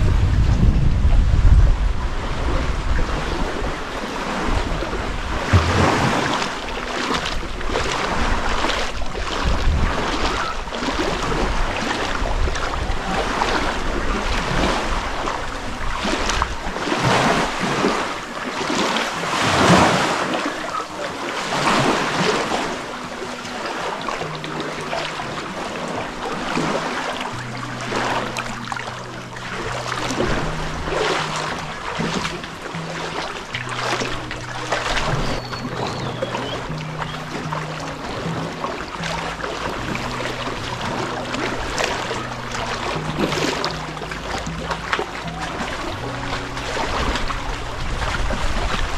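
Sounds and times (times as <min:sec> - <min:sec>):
background music with low notes: 0:00.0 - 0:48.9
sea waves washing over rocks: 0:00.0 - 0:48.9
water splashing from wading: 0:00.0 - 0:48.9.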